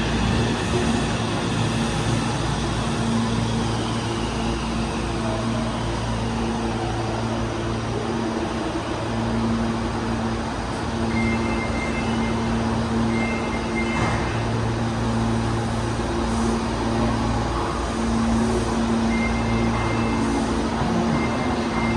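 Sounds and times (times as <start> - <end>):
train equipment humming: 0.0 - 21.9.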